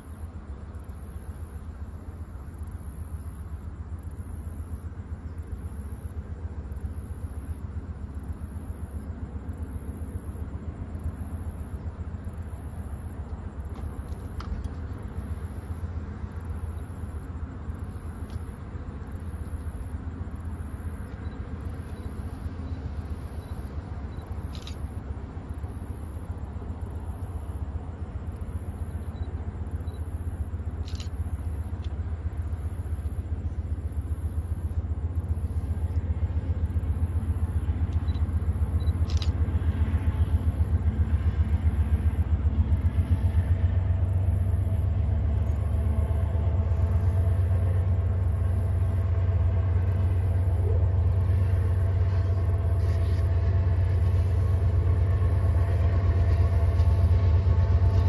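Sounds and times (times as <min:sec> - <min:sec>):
faint steady tones: 0:00.0 - 0:58.0
freight train rumble: 0:00.0 - 0:58.0.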